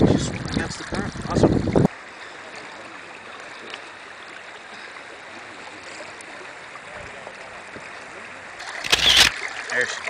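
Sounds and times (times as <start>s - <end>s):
river water flowing over streambed: 1.9s - 10.0s.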